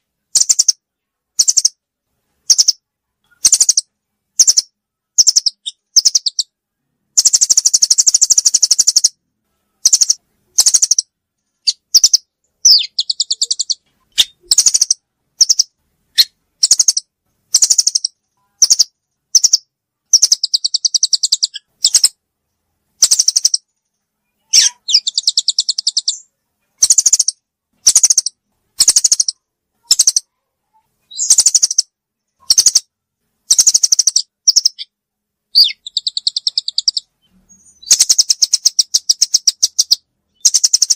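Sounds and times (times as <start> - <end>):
birds chirping trills: 0.0 - 0.8, 2.4 - 40.9.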